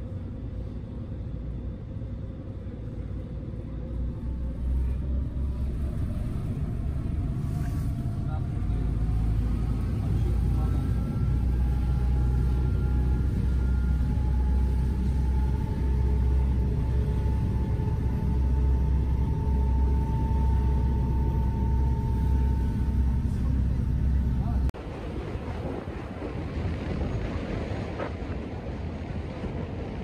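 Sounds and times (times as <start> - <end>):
faint high whine: 0.0 - 24.7
ferry engines rumbling: 0.0 - 30.0.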